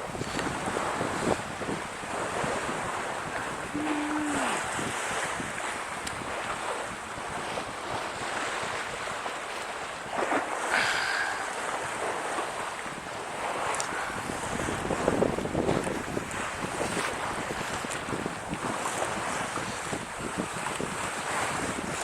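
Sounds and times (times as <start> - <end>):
wind and sea rushing: 0.0 - 22.0
wind buffeting microphone: 0.0 - 22.0.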